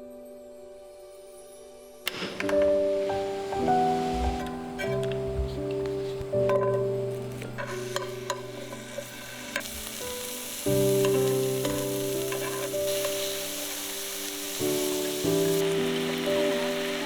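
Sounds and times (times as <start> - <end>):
soft background music: 0.0 - 17.0
food sizzling in a pan: 2.1 - 17.0.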